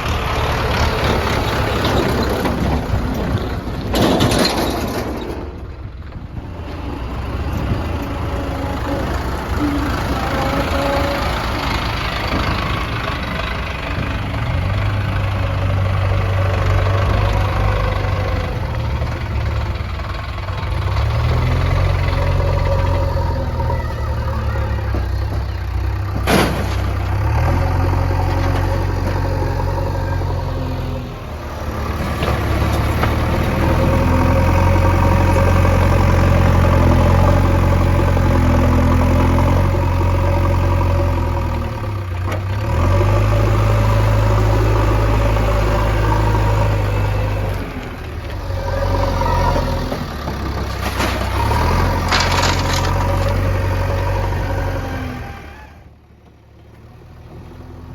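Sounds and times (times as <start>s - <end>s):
diesel engines running: 0.0s - 57.9s.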